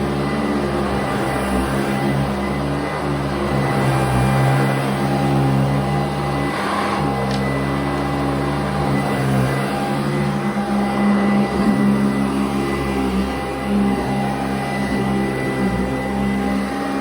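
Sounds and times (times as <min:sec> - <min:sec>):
vacuum cleaner motor hum: 0:00.0 - 0:17.0.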